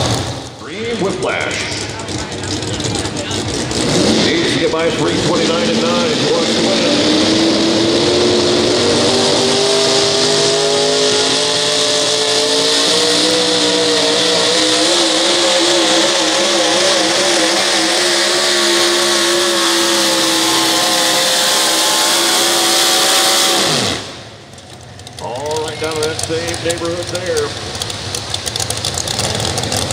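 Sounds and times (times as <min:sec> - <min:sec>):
truck engine at full throttle: 0:00.0 - 0:29.9.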